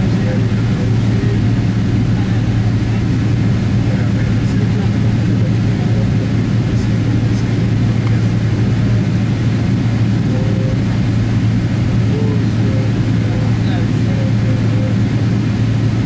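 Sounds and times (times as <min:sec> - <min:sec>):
jet airliner drone: 0:00.0 - 0:16.0.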